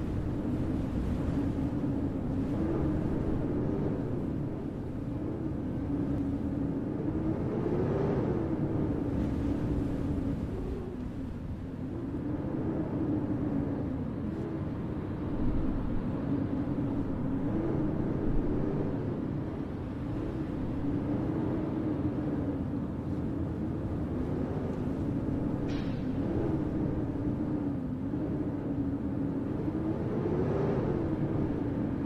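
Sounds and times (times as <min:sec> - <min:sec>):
droning hum: 0:00.0 - 0:32.0
low city rumble: 0:00.0 - 0:32.0.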